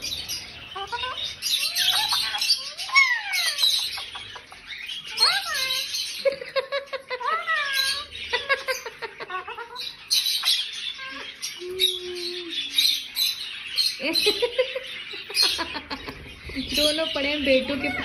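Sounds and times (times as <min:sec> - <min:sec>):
parrots squawking and chattering: 0:00.0 - 0:18.0.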